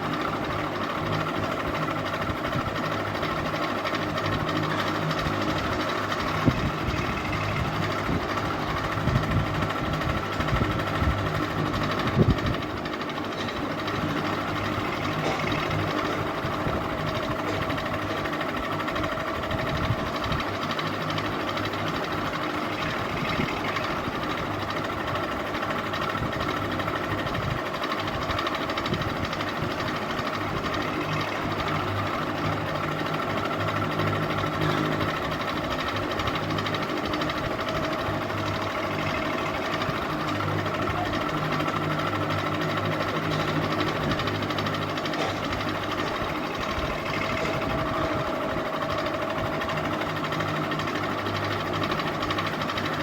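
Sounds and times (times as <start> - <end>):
ceiling fan whirring: 0.0 - 53.0.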